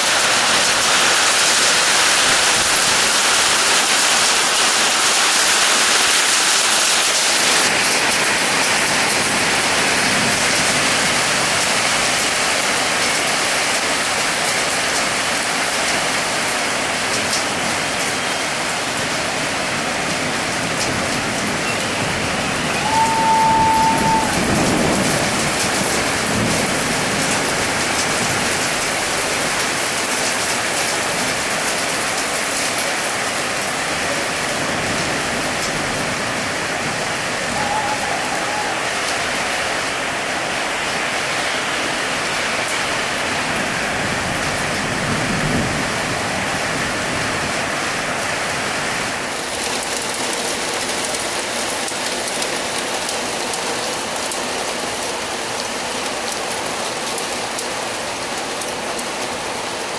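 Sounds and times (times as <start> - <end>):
heavy rain on hard surfaces: 0.0 - 59.9.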